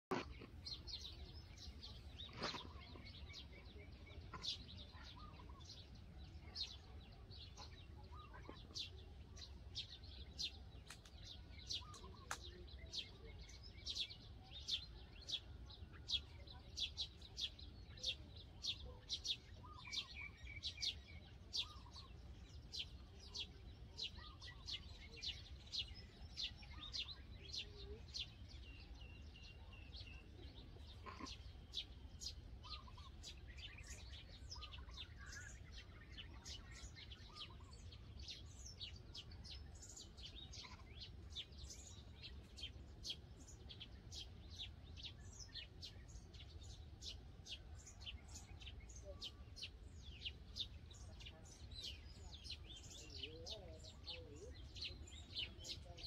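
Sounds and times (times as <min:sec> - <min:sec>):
small bird chirping: 0:00.1 - 0:56.0.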